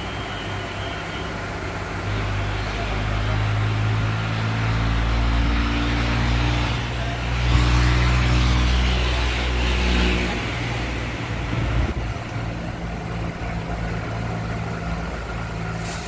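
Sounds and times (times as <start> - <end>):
tractor engine revving: 0.0 - 16.0.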